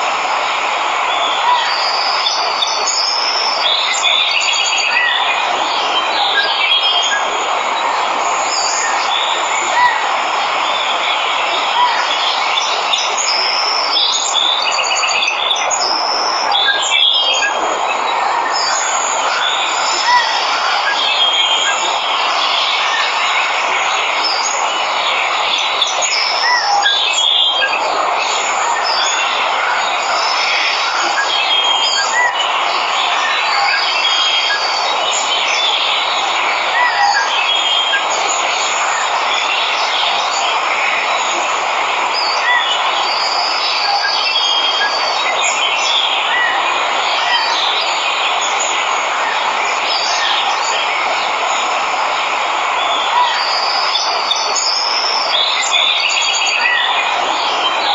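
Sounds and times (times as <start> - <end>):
waterfall rushing: 0.0 - 57.9
birds chirping: 1.1 - 57.9.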